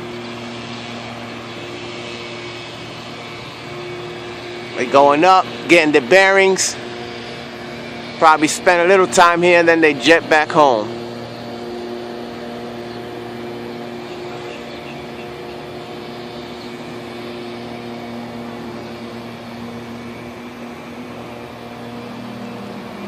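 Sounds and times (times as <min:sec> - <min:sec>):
mechanical hum with low drone: 0:00.0 - 0:23.0.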